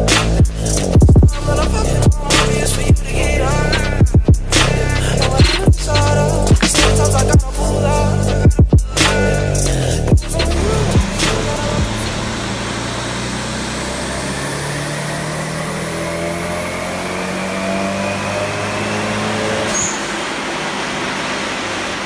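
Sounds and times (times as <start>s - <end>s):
car engine under load: 0.0s - 22.0s
rising whine: 0.0s - 22.0s.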